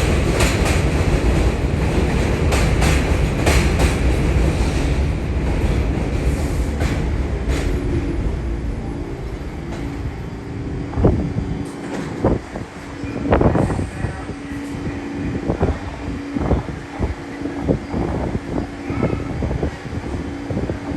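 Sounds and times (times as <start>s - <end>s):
steady hum: 0.0s - 20.7s
subway train rumbling past: 0.0s - 20.9s.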